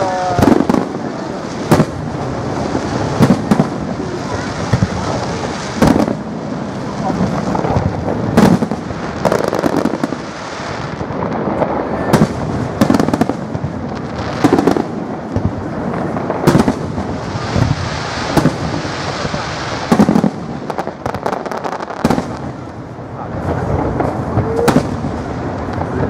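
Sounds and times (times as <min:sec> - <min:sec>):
firework bangs: 0:00.0 - 0:26.0
fireworks rumble and crackle: 0:00.0 - 0:26.0.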